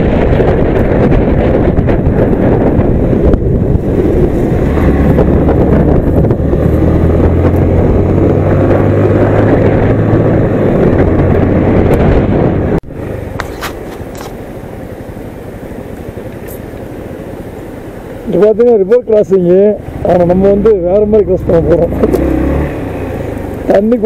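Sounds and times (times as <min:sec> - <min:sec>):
motorcycle engine humming: 0:00.0 - 0:24.0
wind buffeting microphone: 0:00.0 - 0:24.0.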